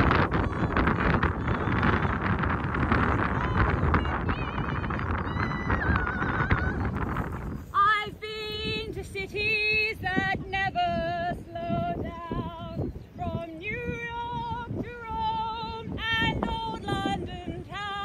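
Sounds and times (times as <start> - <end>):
woman singing unaccompanied: 0.0 - 7.0, 7.7 - 18.0.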